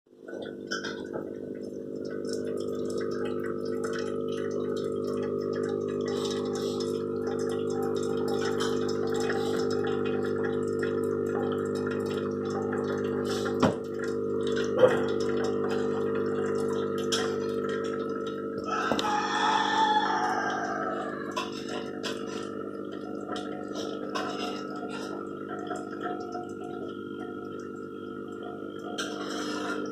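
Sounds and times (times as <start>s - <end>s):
espresso machine pump humming: 0.2s - 29.9s.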